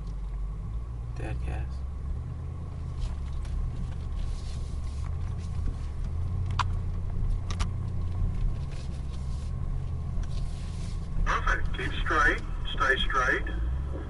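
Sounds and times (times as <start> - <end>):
vehicle engine low rumble: 0.0 - 14.0.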